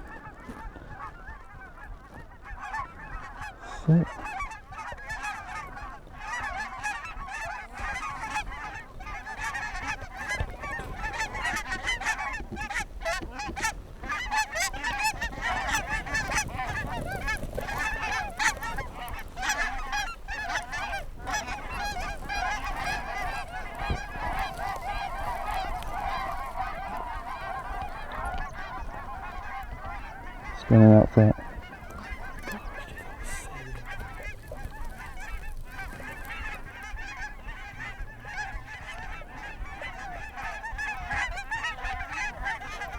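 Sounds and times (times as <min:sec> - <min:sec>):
geese honking: 0:00.0 - 0:42.9.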